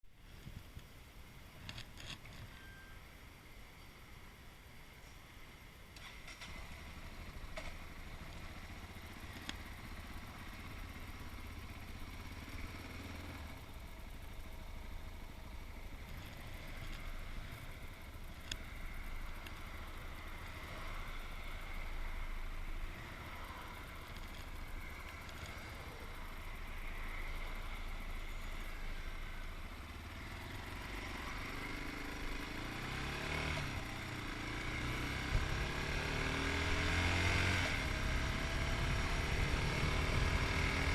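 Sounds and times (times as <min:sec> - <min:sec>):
motorcycle engine running: 0:06.4 - 0:40.9.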